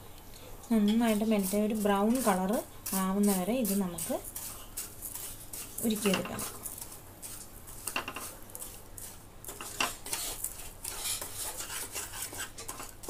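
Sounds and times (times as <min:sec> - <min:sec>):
spoon scraping sugar in a pan: 0:00.8 - 0:13.0.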